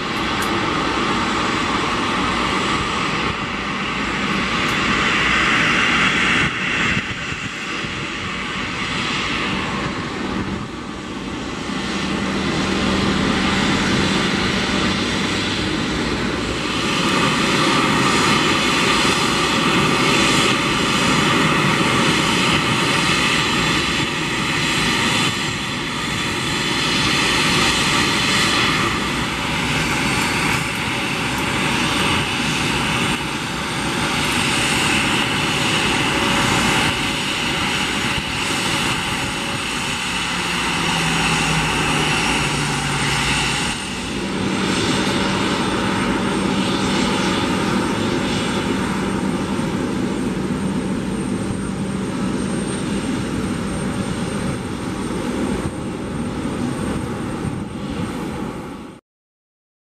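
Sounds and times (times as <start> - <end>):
high engine whine: 0.0 - 59.0
jet engine rushing noise: 0.0 - 59.0.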